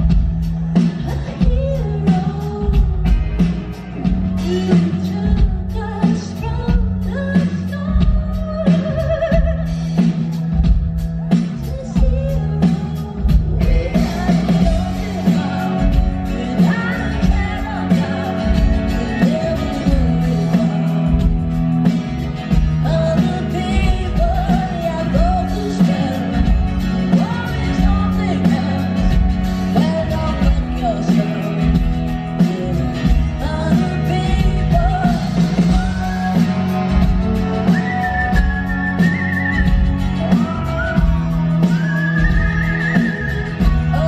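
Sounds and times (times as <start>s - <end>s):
drums: 0.0s - 44.0s
person singing: 0.0s - 44.0s.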